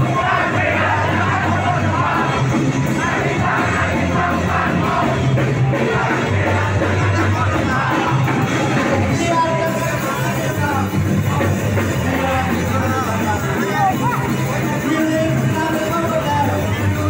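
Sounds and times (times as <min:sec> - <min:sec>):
crowd shouting: 0:00.0 - 0:17.0
rock band playing loudly: 0:00.0 - 0:17.0.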